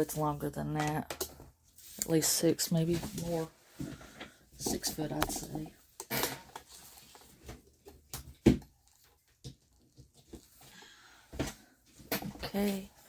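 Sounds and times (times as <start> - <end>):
clicks and knocks handling plastic parts: 0.7 - 1.6, 3.0 - 12.8.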